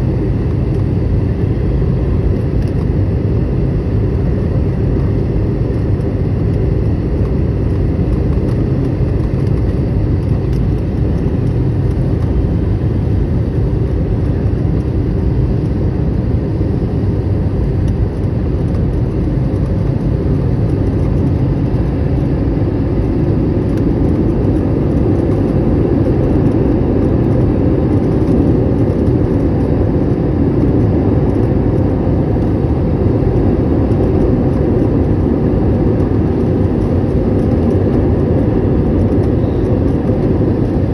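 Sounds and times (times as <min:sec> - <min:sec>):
airliner cabin engine noise: 0:00.0 - 0:40.9.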